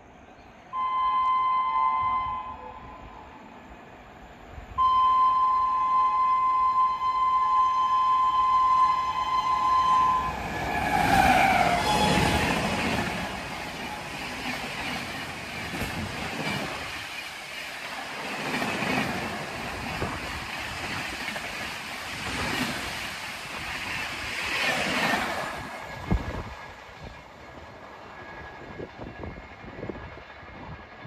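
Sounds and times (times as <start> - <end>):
train passing rumble: 0.0 - 31.0.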